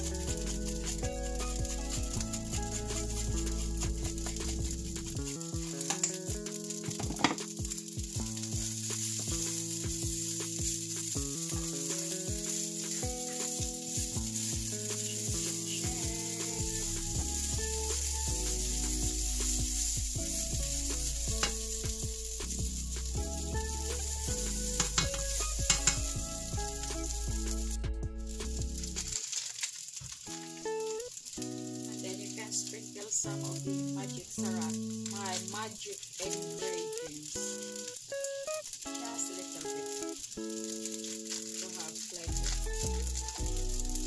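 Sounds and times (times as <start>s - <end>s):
rice sizzling in a pan: 0.0s - 44.0s.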